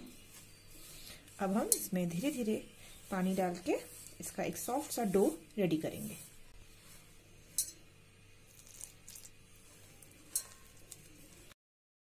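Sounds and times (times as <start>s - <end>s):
hands mixing dough in a bowl: 0.0s - 11.6s.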